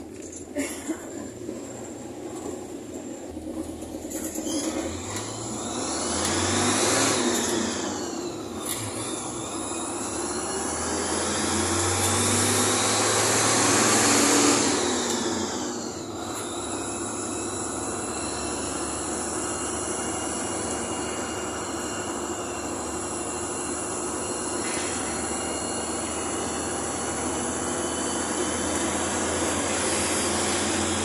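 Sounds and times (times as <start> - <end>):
bus engine and road noise: 0.0 - 31.0.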